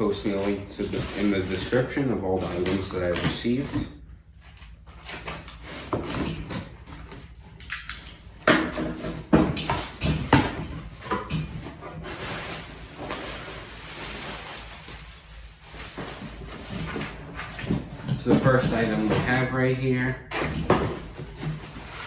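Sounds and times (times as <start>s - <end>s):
packaging rustling: 0.0s - 7.9s, 9.8s - 19.9s.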